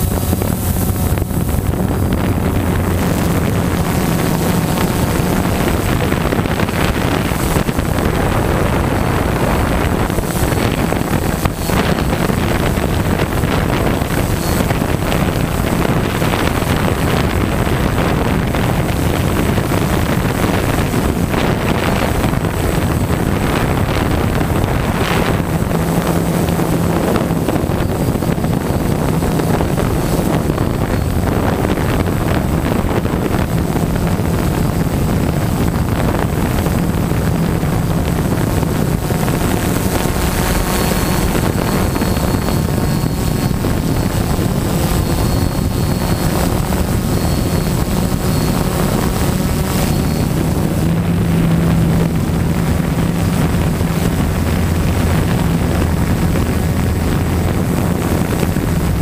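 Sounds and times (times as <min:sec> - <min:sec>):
drone propellers buzzing: 0:00.0 - 0:59.0
wind on microphone: 0:00.0 - 0:59.0.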